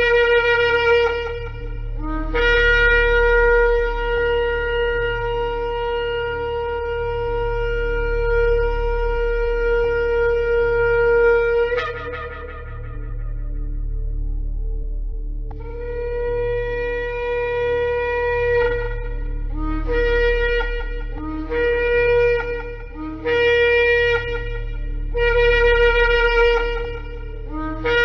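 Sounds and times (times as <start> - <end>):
shofar blasts: 0.0 - 14.2, 15.5 - 28.0
steady low hum: 0.0 - 28.0.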